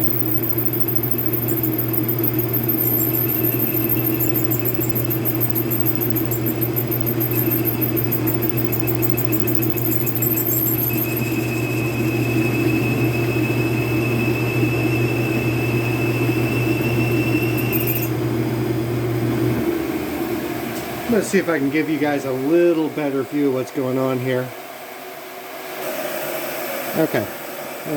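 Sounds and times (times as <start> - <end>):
metal lathe humming: 0.0 - 23.6
thin high whine: 0.0 - 24.6.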